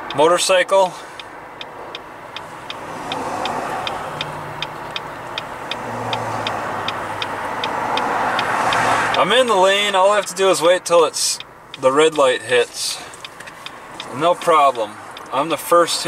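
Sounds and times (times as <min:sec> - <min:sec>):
car engine: 0:00.0 - 0:16.0
road noise inside car: 0:00.0 - 0:16.0
turn signal ticking: 0:00.0 - 0:16.0.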